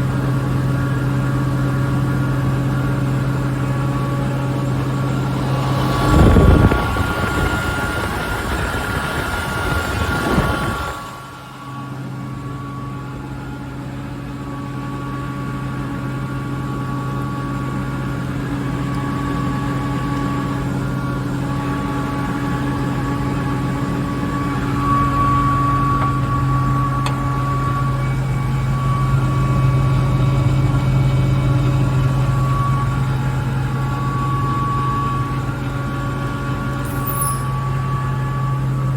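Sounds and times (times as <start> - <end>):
air compressor humming with whine: 0.0 - 38.9.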